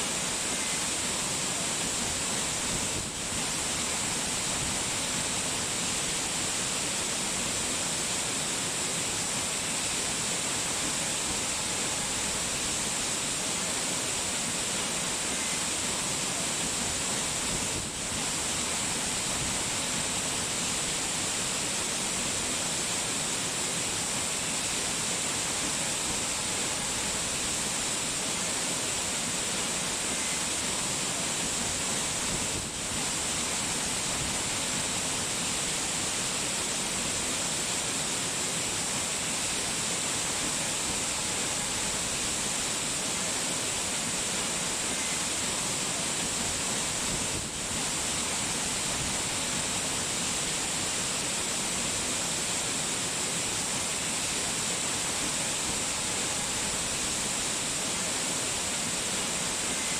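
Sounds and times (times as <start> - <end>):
rushing water hiss: 0.0 - 59.9.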